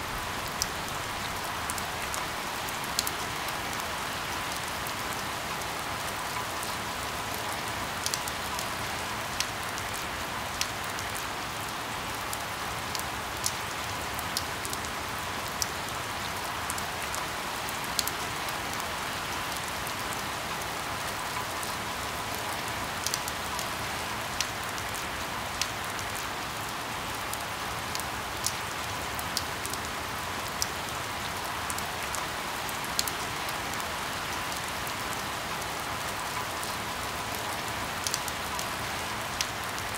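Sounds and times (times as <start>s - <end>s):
steady rain falling: 0.0s - 39.9s
raindrops ticking close by: 0.1s - 39.9s.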